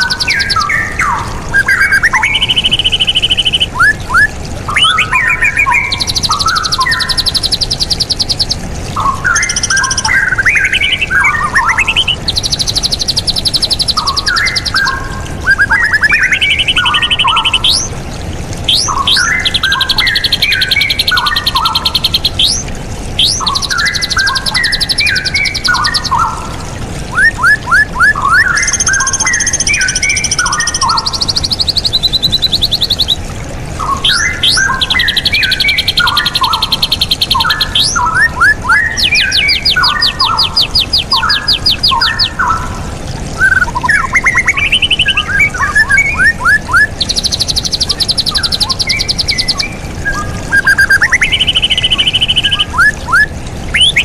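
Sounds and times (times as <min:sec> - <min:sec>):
bulbul singing: 0:00.0 - 0:54.0.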